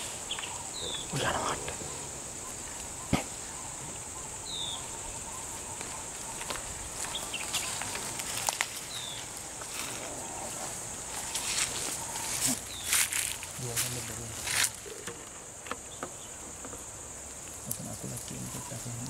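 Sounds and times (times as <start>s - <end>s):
bird chirping: 0.0s - 9.4s, 10.1s - 19.0s
insects droning: 0.0s - 19.0s.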